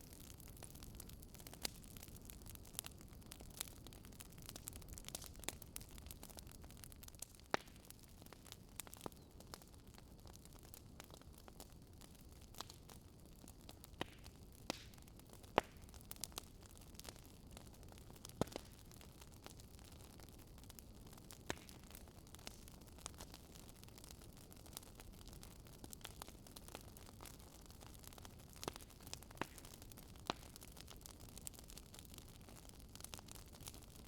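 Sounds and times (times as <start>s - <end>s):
fireplace crackling and popping: 0.0s - 34.0s.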